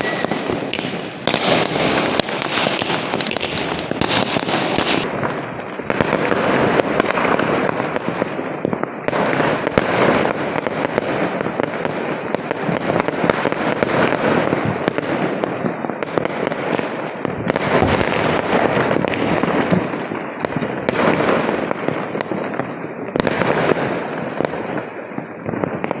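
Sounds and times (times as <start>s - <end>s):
fireworks and firecrackers banging: 0.0s - 26.0s.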